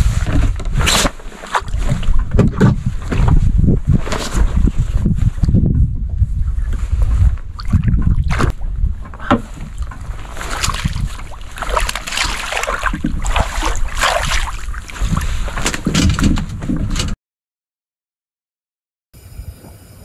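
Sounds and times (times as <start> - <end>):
wind rumble on microphone: 0.0 - 17.2.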